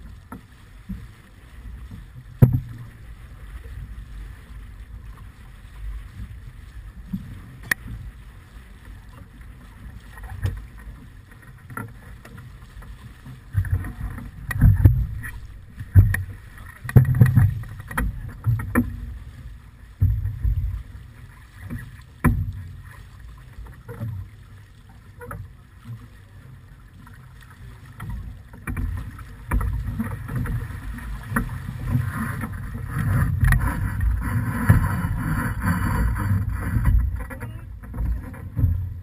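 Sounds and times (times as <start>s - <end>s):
water rushing along hull: 0.0s - 39.0s.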